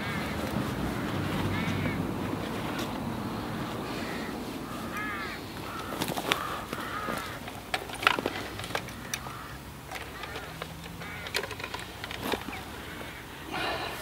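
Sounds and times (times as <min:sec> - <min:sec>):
bird calling: 0:00.0 - 0:14.0.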